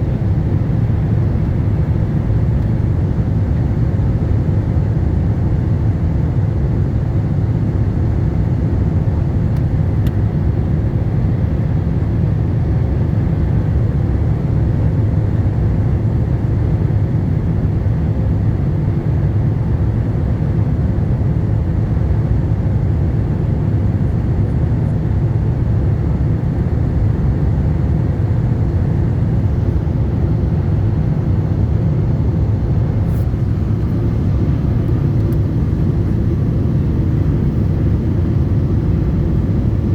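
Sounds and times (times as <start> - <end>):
airliner rumble in flight: 0.0 - 39.9.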